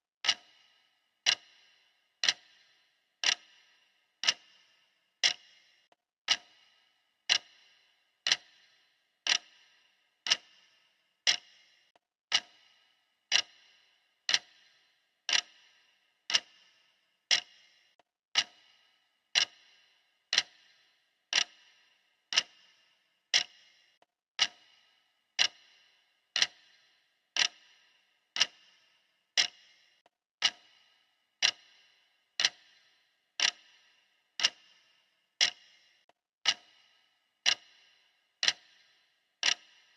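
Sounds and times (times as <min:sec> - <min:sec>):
clock ticking: 0:00.2 - 0:39.9.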